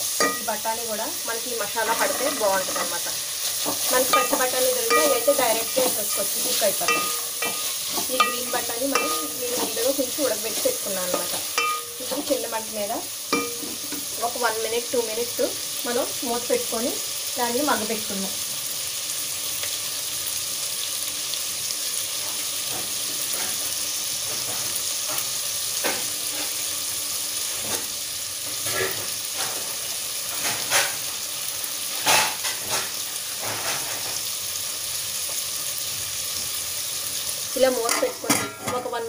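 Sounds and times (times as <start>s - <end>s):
vegetables sizzling in hot oil: 0.0s - 39.0s.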